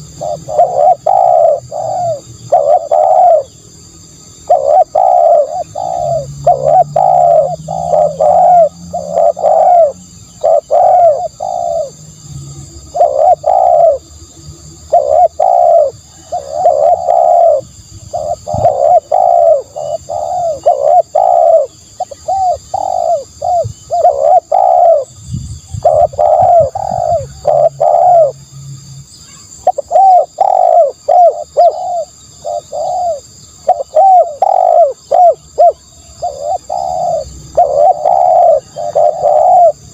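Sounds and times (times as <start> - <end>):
dove cooing: 0.0 - 12.2, 12.9 - 28.5, 29.6 - 39.9.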